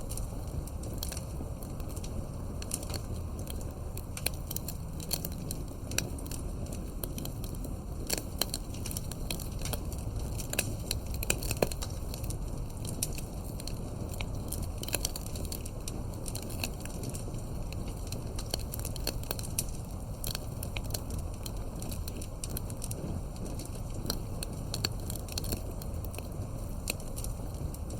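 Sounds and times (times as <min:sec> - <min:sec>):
campfire pops and snaps: 0:00.0 - 0:27.9
low rumble of flames: 0:00.0 - 0:27.9.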